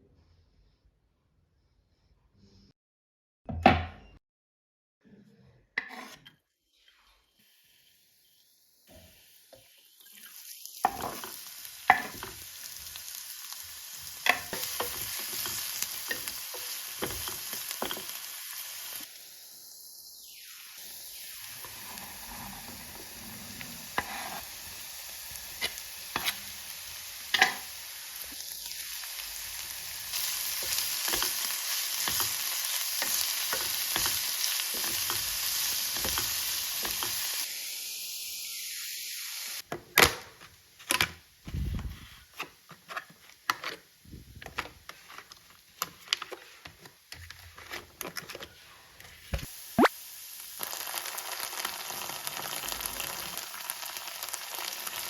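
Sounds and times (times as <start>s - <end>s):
food sizzling in a pan: 6.7s - 40.4s, 43.5s - 55.0s.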